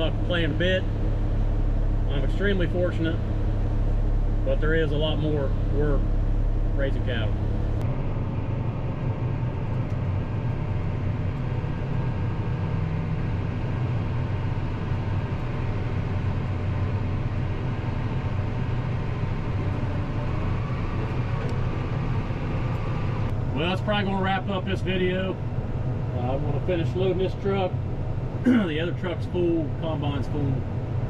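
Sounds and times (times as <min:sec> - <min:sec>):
tractor diesel engine drone: 0:00.0 - 0:31.0.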